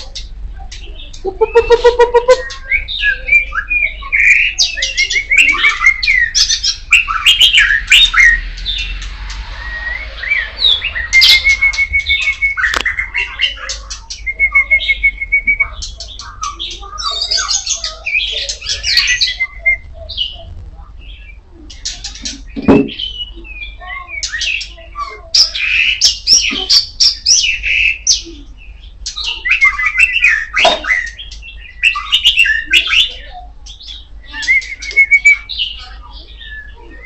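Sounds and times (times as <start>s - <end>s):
songbird whistles and trills: 0.8s - 20.5s, 21.1s - 37.0s.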